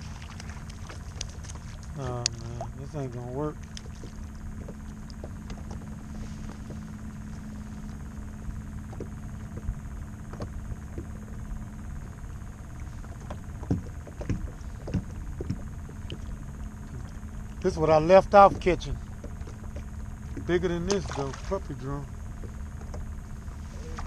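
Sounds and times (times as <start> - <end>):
steady low hum and rumble: 0.0 - 24.0.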